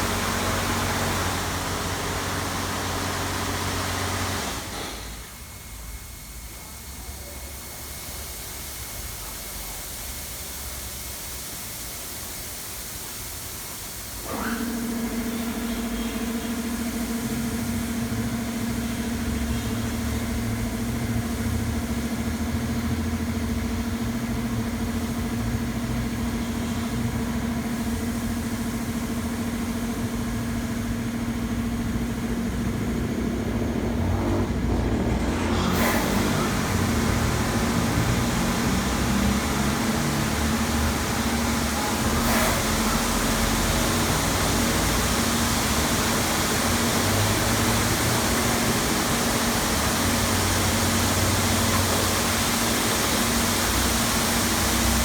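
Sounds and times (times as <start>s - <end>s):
car wash machine humming: 0.0s - 55.0s.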